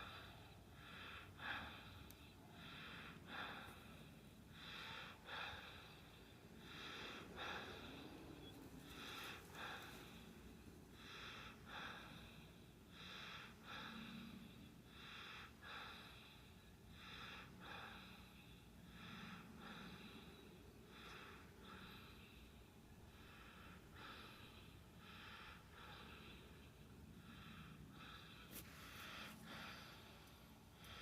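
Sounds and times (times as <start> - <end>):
faint breathing: 0.0 - 31.0.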